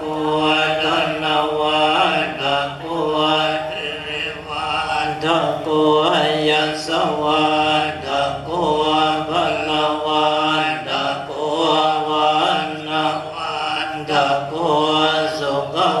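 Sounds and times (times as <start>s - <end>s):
droning chant: 0.0s - 16.0s.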